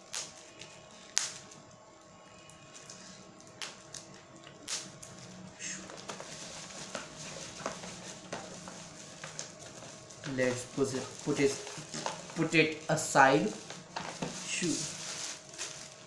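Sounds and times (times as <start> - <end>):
bubble wrap crinkling: 2.7 - 16.0.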